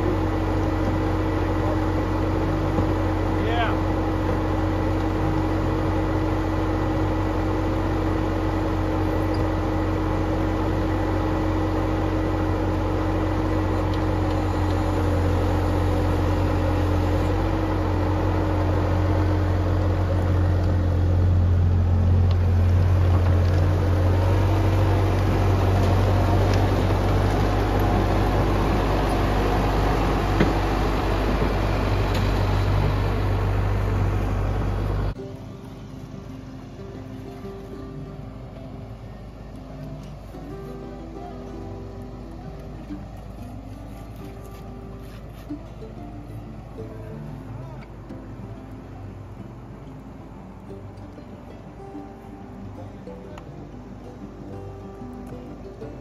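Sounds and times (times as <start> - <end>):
diesel engine low drone: 0.0 - 56.0.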